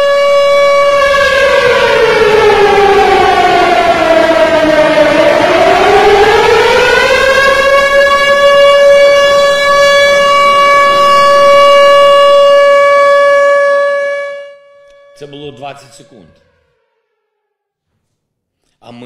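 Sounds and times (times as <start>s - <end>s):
loud air-raid siren: 0.0s - 17.8s.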